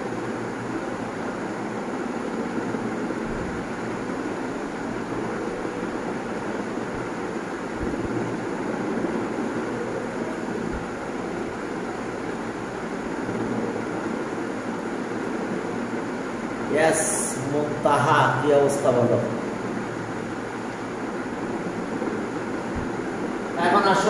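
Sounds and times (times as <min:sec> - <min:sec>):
room noise rushing hum: 0:00.0 - 0:24.0.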